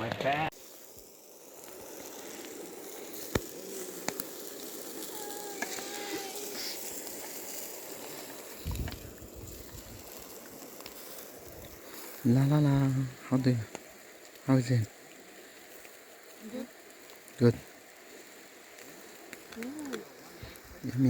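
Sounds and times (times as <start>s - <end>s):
food sizzling on grill: 0.2s - 21.0s
fire crackling: 0.3s - 21.0s.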